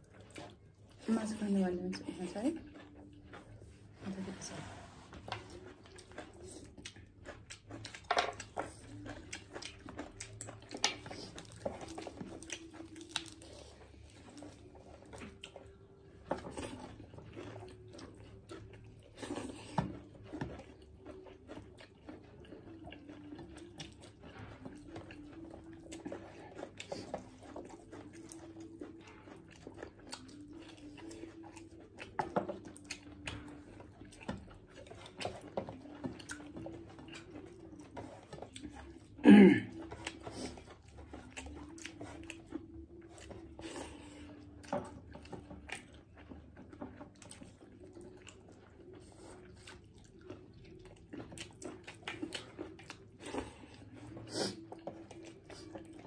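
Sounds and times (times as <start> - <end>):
chewing and wet smacking: 0.0 - 56.0.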